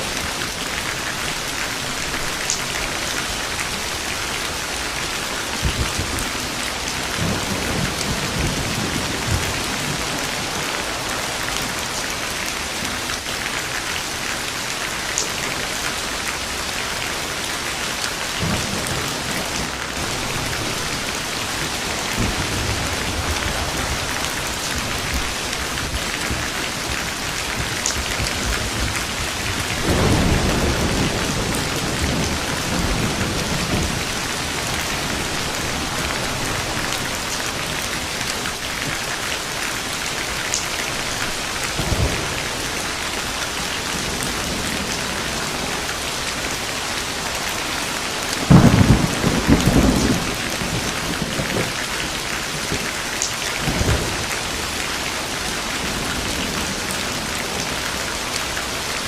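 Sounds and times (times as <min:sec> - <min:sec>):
thunder rumbling: 0:00.0 - 0:13.2, 0:18.2 - 0:46.0, 0:47.3 - 0:57.9
heavy rain falling: 0:00.0 - 0:59.0.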